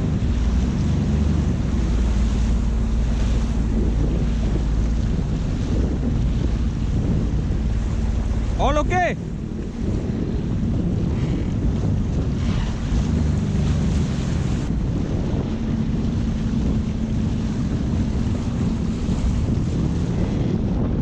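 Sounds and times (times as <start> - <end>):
jet ski engine humming: 0.0 - 21.0
rushing water: 0.0 - 21.0
wind buffeting on microphone: 0.0 - 21.0.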